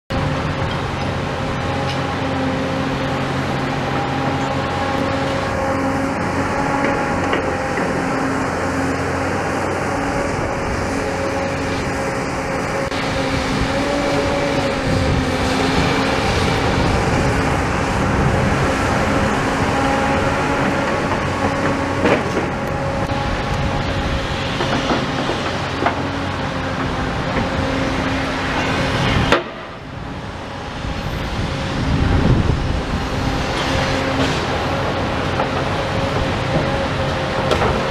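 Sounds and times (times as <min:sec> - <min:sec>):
diesel engine running: 0:00.1 - 0:37.9
hydraulic whine: 0:00.1 - 0:37.9.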